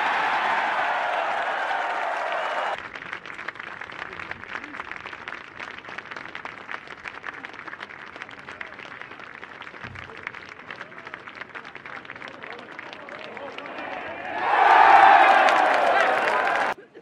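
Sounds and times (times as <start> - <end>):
crowd applause: 0.0 - 16.8.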